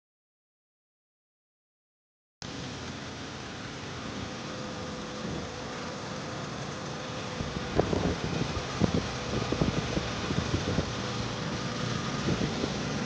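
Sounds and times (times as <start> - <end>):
fan-like whir: 2.4 - 13.0.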